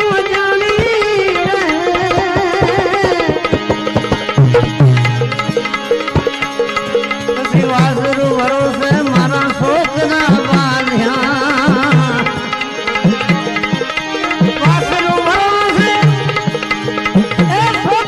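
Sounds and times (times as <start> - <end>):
sustained melody: 0.0 - 18.0
tabla playing: 0.0 - 18.0.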